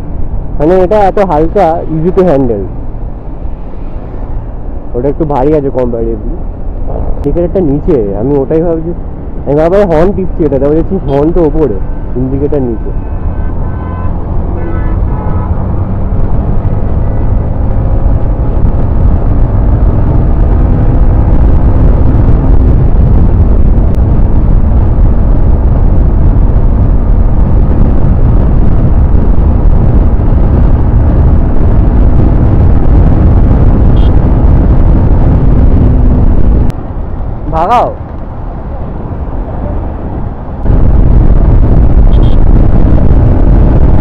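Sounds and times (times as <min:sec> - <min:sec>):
wind rush: 0:00.0 - 0:44.0.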